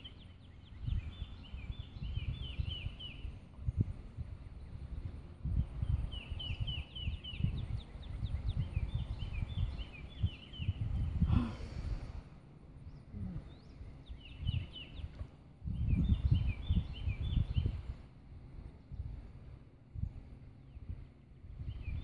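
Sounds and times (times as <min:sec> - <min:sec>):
bird chirping: 0:00.0 - 0:12.2, 0:12.8 - 0:22.0
wind rumbling on microphone: 0:00.0 - 0:22.0.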